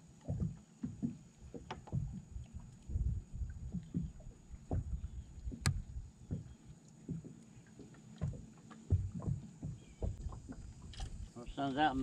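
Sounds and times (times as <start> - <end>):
waves slapping against boat hull: 0.0 - 12.0.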